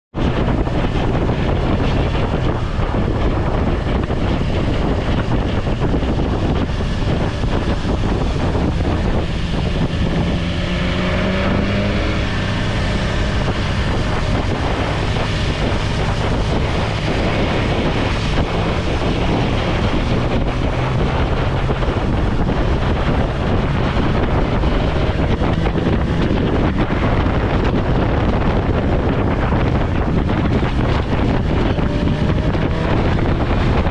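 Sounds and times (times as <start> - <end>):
motorcycle engine running: 0.1 - 33.9
wind noise on microphone: 0.1 - 33.9.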